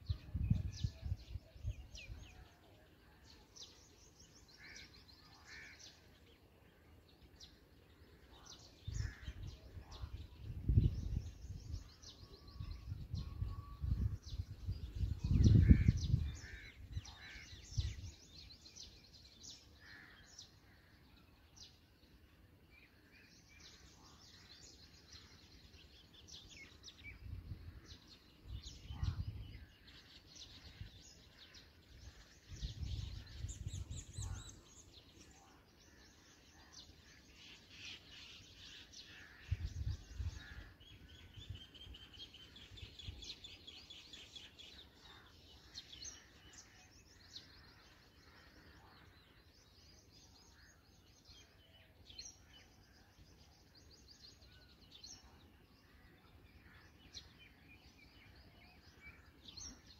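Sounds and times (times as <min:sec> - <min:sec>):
birds chirping high: 0:00.0 - 0:59.9.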